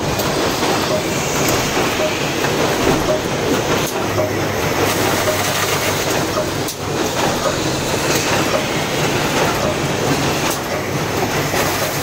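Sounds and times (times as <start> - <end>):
packaging machinery clattering: 0.0 - 12.0
sharp clacks: 0.2 - 12.0.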